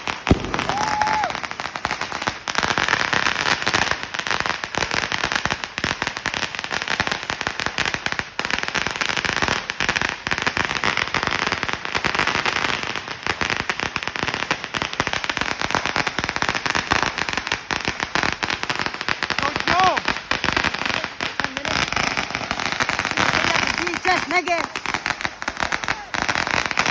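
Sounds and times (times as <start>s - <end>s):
firecrackers rapid bangs: 0.0s - 26.9s.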